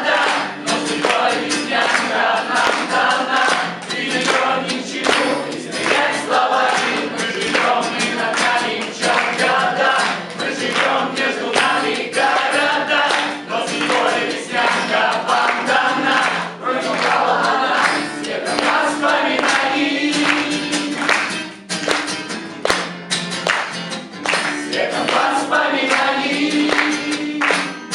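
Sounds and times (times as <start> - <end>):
group of voices singing: 0.0 - 21.5, 24.5 - 27.9.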